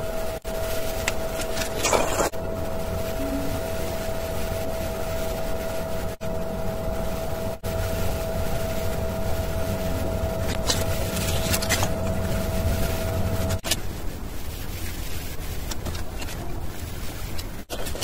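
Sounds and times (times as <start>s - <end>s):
machine hum with constant tone: 0.0s - 18.0s.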